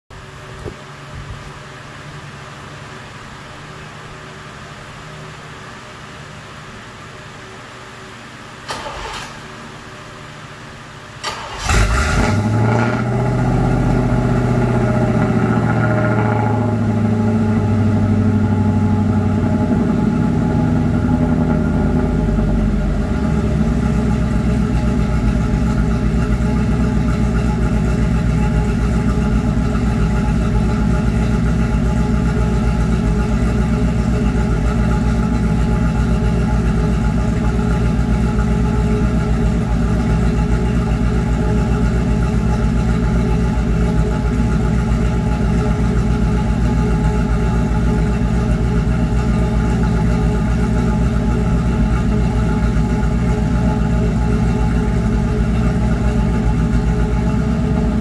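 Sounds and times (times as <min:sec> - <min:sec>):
car engine starting and idling: 0:08.6 - 0:10.2, 0:11.1 - 0:58.0.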